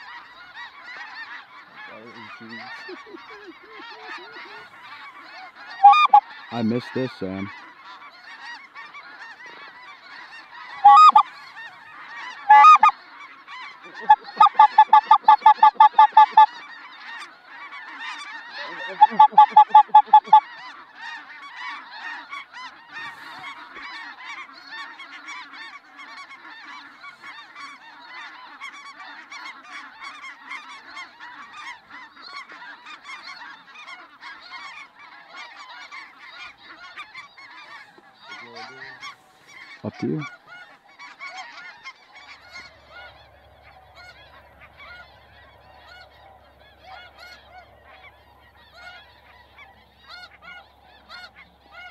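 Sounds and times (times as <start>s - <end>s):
close goose honks: 0.0s - 51.9s
flock of geese honking: 0.0s - 51.9s.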